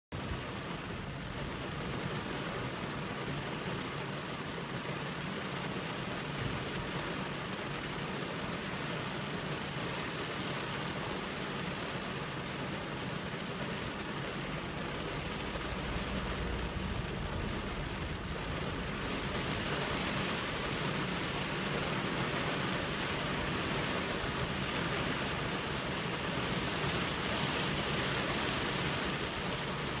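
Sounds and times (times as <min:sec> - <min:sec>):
heavy rain on car windscreen: 0:00.2 - 0:30.0.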